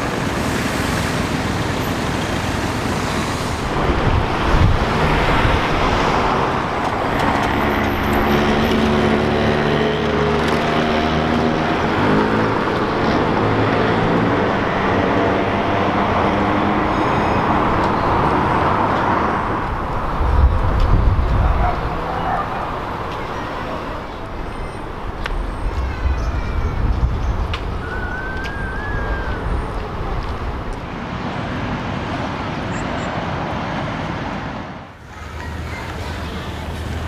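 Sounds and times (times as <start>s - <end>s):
city traffic passing: 0.0s - 37.0s
vehicle engine hum: 0.0s - 37.0s.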